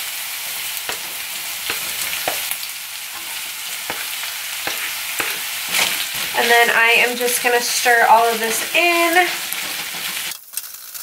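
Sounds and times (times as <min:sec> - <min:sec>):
meat sizzling in a skillet: 0:00.0 - 0:11.0
spatula scraping and knocking: 0:00.5 - 0:10.4.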